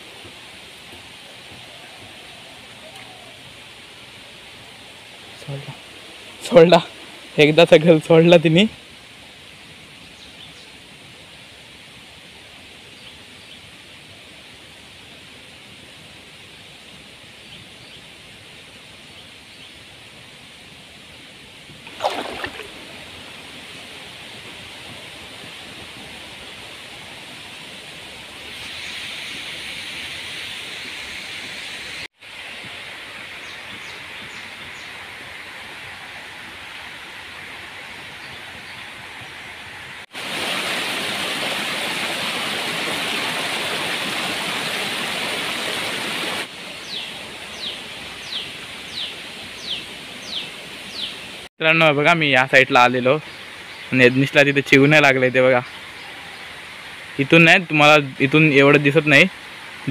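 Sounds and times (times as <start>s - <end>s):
flowing river water: 0.0s - 59.9s.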